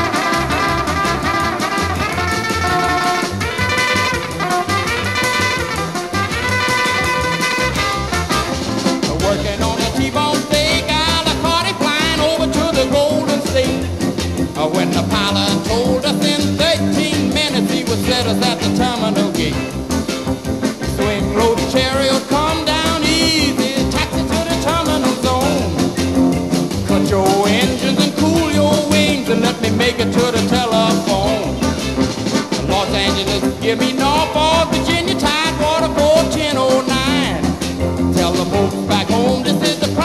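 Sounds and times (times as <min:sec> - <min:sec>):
upbeat rock and roll music: 0:00.0 - 0:40.0.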